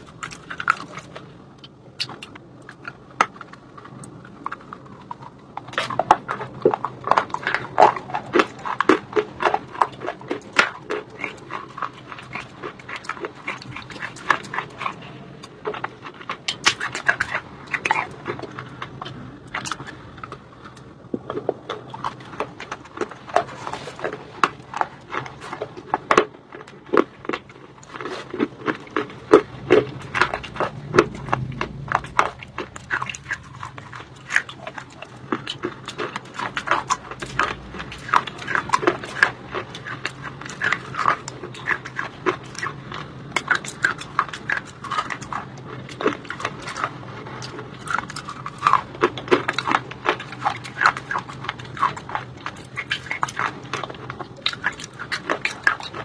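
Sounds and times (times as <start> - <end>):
stone crunching in mouth: 0.0 - 56.0
wet mouth sounds: 0.0 - 56.0.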